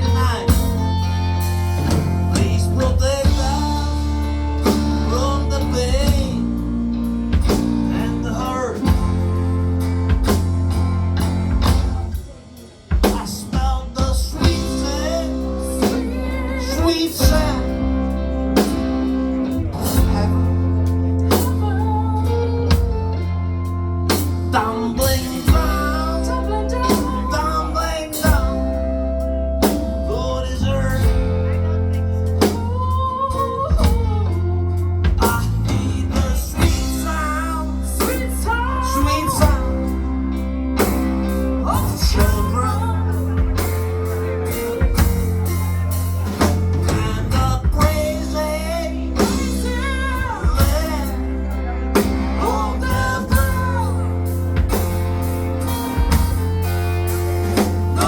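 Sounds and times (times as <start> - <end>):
bending lead guitar melody: 0.0 - 58.0
live blues-rock band: 0.0 - 58.0.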